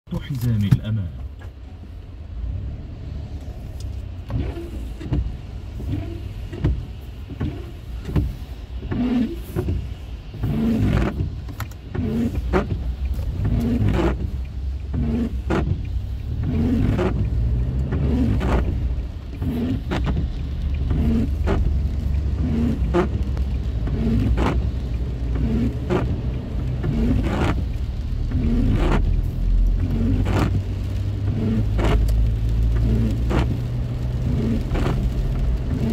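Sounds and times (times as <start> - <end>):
car driving rumble: 0.0 - 35.9
windshield wipers sweeping: 0.1 - 35.9.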